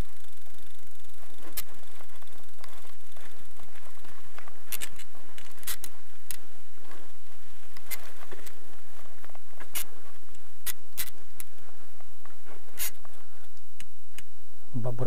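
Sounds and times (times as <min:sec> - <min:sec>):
bicycle rattling and clicking: 0:00.0 - 0:14.3
steady low rumble: 0:00.0 - 0:15.0.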